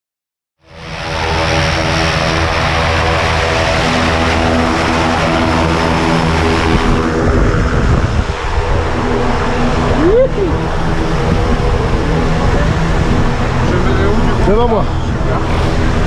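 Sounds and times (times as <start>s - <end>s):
propeller plane engine droning: 0.6s - 16.0s.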